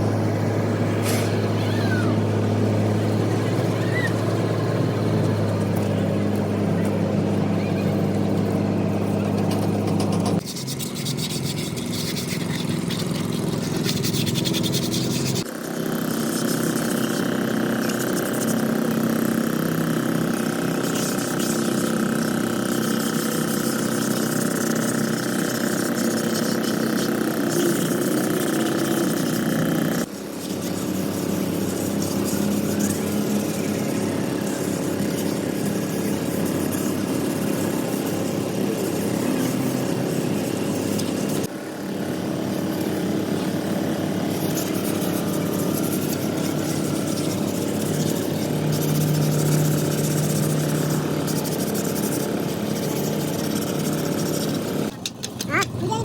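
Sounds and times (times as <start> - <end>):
workshop machinery running: 0.0 - 56.0.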